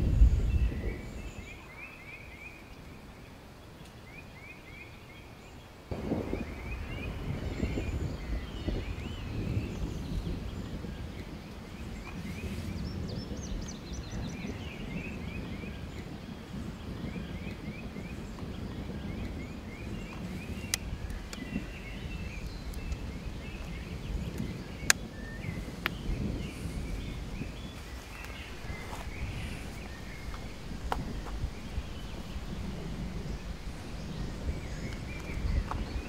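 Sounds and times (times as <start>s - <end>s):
birds chirping: 0.0s - 36.0s
low wind rumble: 0.0s - 36.0s.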